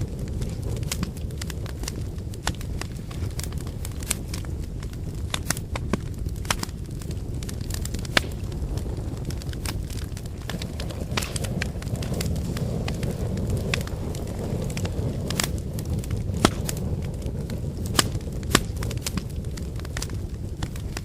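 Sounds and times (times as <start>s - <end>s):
campfire flames rumbling: 0.0s - 21.0s
fire crackling and popping: 0.0s - 21.0s
loud wood snaps: 0.2s - 21.0s.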